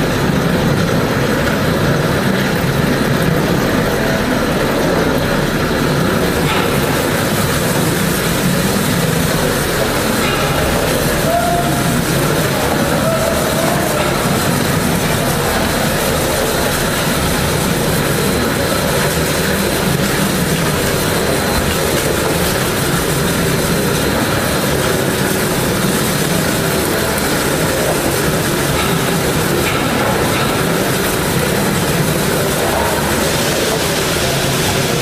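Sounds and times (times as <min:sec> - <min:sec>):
stretch-wrapping machine running: 0:00.0 - 0:35.0.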